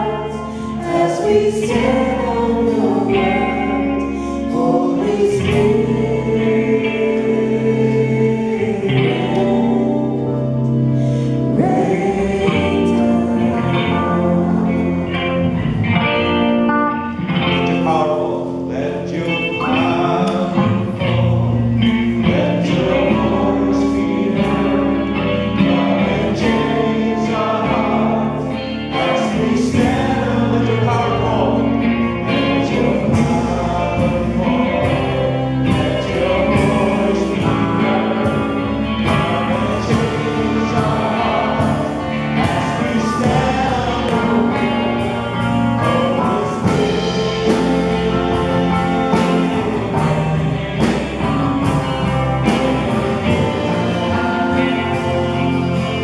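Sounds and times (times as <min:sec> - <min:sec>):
instrumental accompaniment: 0:00.0 - 0:56.0
voices singing worship song: 0:00.0 - 0:56.0.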